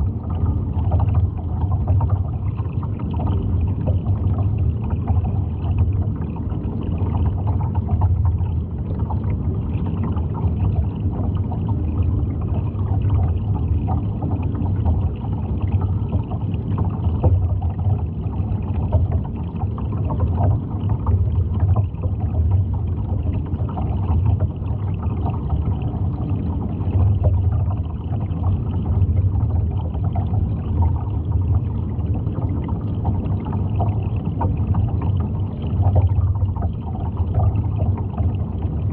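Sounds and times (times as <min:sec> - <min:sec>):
underwater low rumble: 0:00.0 - 0:38.9.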